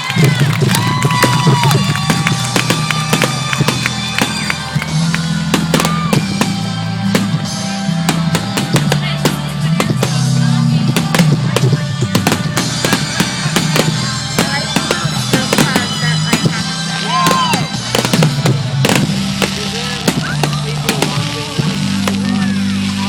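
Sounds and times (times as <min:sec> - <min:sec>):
fireworks cracking and popping: 0:00.0 - 0:23.0
music with bass and drums: 0:00.0 - 0:23.0.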